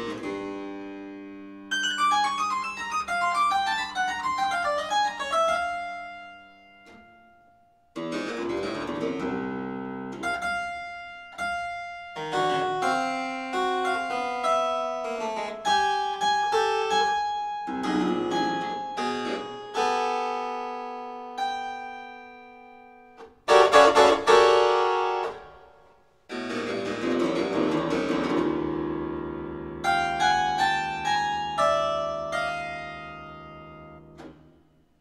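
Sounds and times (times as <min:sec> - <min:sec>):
solo harpsichord playing: 0:00.0 - 0:07.0, 0:08.0 - 0:34.6.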